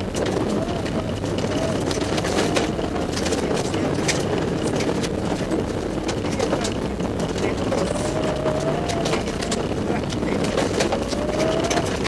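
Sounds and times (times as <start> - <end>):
rally car engine running hard: 0.0 - 12.0
road and wind noise: 0.0 - 12.0
sharp clicks and knocks: 0.0 - 12.0.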